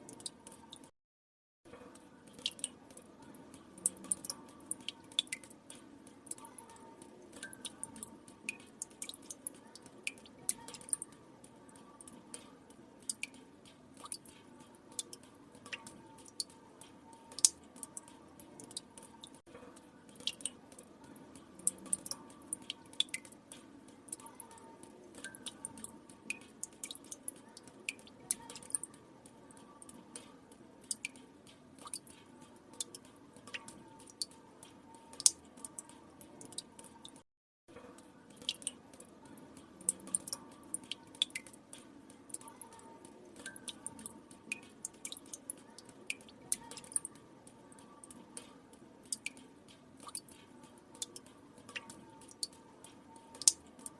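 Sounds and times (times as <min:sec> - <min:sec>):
water drops dripping into water: 0:00.0 - 0:00.9, 0:01.7 - 0:53.9.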